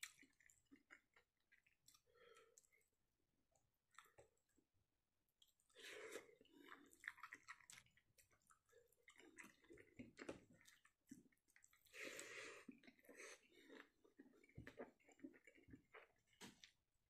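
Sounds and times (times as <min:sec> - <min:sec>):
person chewing: 0:00.0 - 0:03.0, 0:03.6 - 0:04.5, 0:05.4 - 0:16.8.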